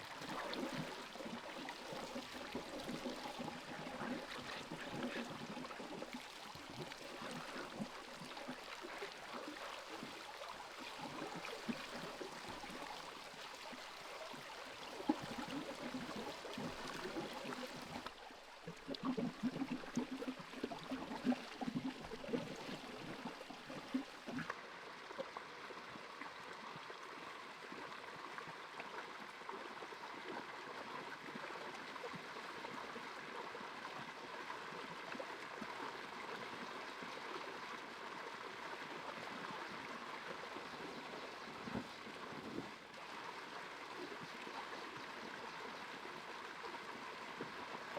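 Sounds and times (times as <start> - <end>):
stream trickling and gurgling: 0.0 - 47.9.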